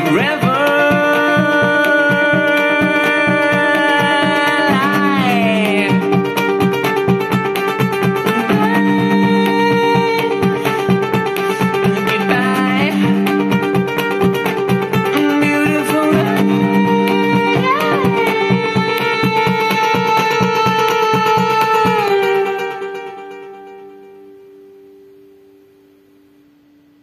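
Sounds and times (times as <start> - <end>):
guitar-led music on a speaker: 0.0 - 27.0.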